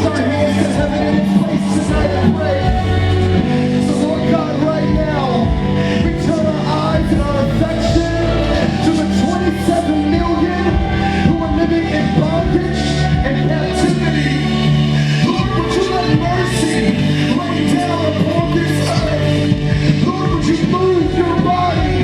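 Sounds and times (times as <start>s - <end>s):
person singing: 0.0s - 22.0s
sustained chords: 0.0s - 22.0s.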